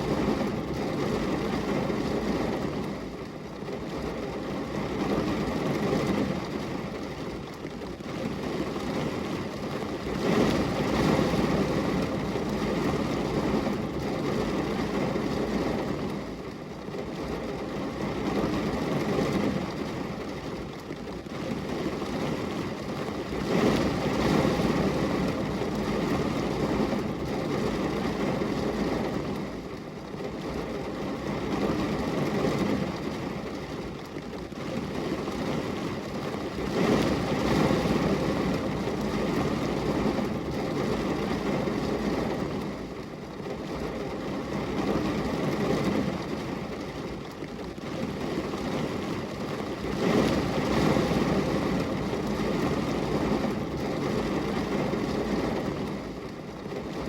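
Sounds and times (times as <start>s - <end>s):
rain on a glass window: 0.0s - 57.0s.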